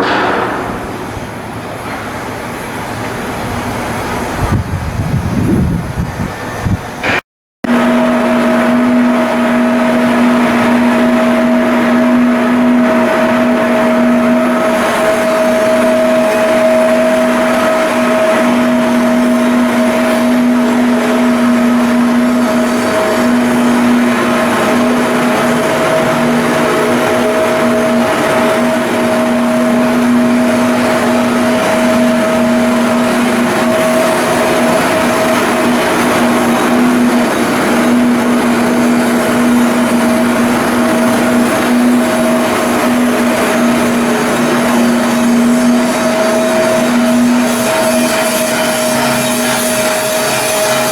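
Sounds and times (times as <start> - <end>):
machinery droning: 0.0 - 50.9.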